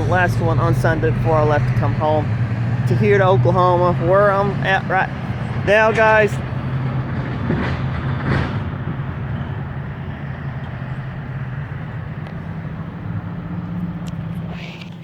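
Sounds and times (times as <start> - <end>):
heavy engine humming: 0.0 - 15.0.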